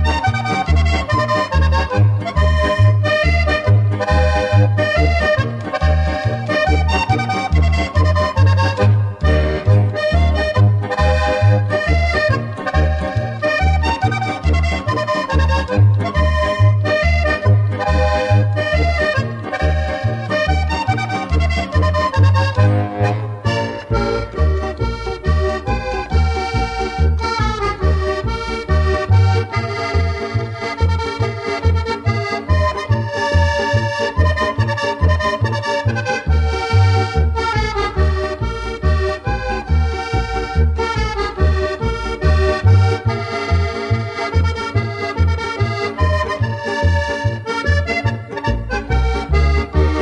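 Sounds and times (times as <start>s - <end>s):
accordion melody: 0.0s - 50.0s
steady bass beat: 0.3s - 31.8s, 32.5s - 50.0s.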